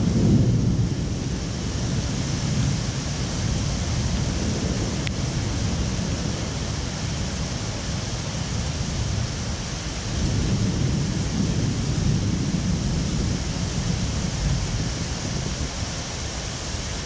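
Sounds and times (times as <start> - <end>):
distant thunder rumble: 0.0 - 16.0
rain hissing: 0.0 - 17.0.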